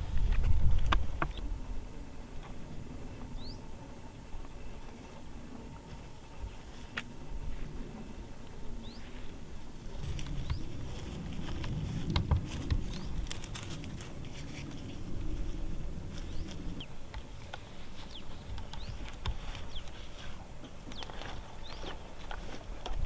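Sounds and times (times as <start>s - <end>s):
small birds chirping: 2.5s - 7.1s, 8.0s - 22.8s
rustling and handling noise: 4.3s - 23.0s.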